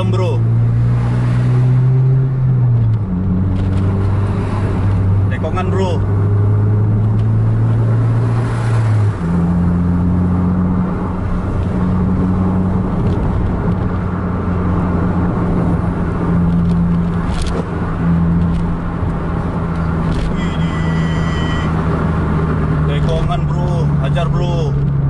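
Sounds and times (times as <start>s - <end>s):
car engine and road hum: 0.0s - 25.0s.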